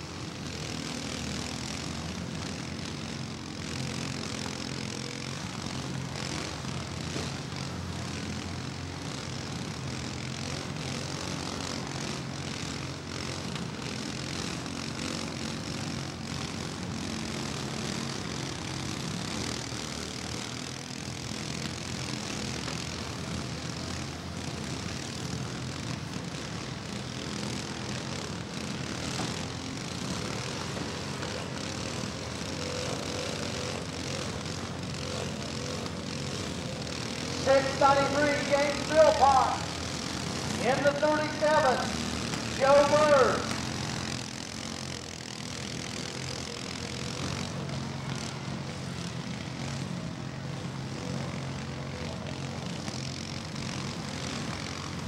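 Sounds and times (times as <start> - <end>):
lawn mower engines droning: 0.0 - 55.0.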